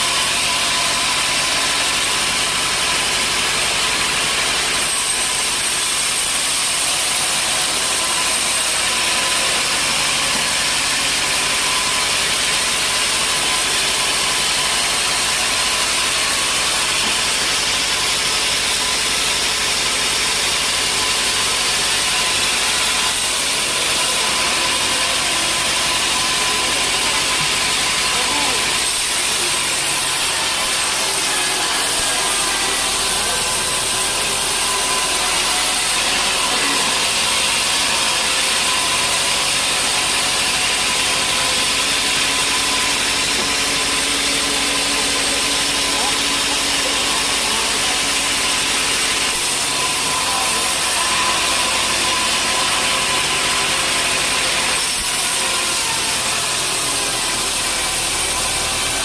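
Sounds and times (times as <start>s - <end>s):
saw cutting through timber: 0.0s - 59.0s.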